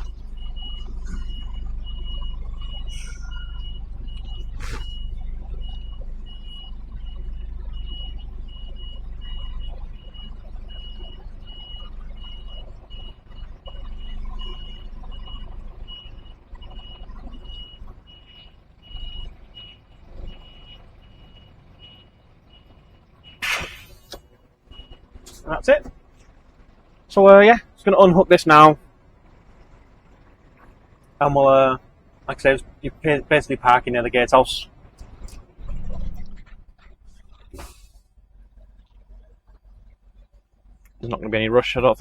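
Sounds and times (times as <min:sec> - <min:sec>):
truck reversing alarm beeping: 0:00.0 - 0:40.3
diesel engine running: 0:00.0 - 0:42.0.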